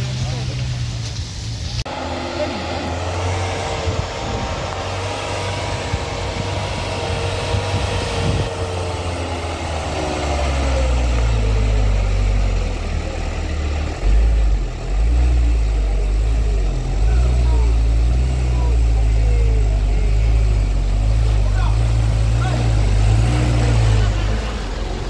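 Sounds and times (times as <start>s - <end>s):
heavy vehicle engines labouring: 0.0s - 25.0s.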